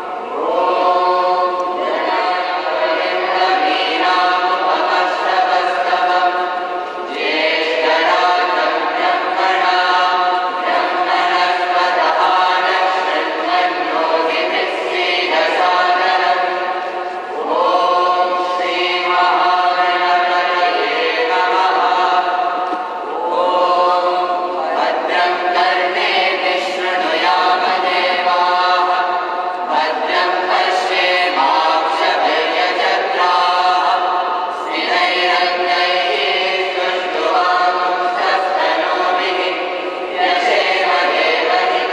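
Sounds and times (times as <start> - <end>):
group of voices chanting: 0.0 - 41.9.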